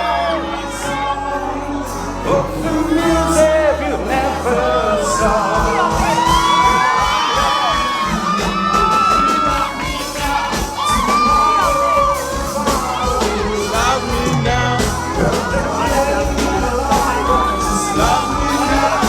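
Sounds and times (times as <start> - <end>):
crowd whooping and shouting: 0.0 - 19.0
singing over a steady beat: 0.0 - 19.0.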